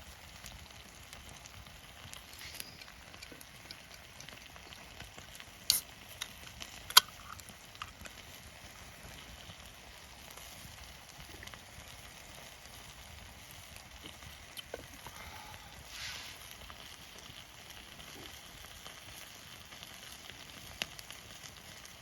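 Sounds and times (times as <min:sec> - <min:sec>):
campfire crackling: 0:00.0 - 0:22.0
fire popping: 0:00.0 - 0:22.0
sizzling hiss: 0:00.0 - 0:22.0.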